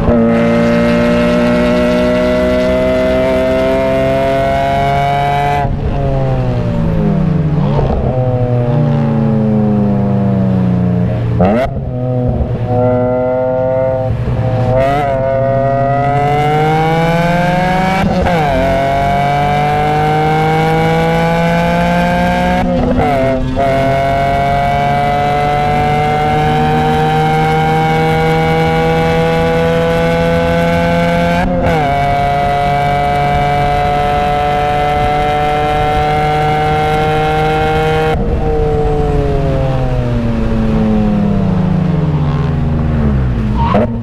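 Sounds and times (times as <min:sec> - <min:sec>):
car engine revving in cabin: 0:00.0 - 0:10.1, 0:11.0 - 0:39.1
rev-matching blips on downshifts: 0:00.0 - 0:44.0.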